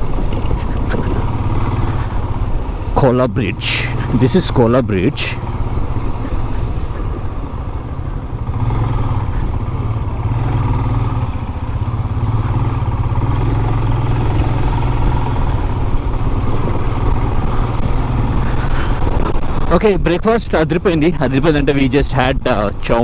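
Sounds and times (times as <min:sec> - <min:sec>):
motorcycle engine drone: 0:00.0 - 0:23.0
road and wind rumble: 0:00.0 - 0:23.0.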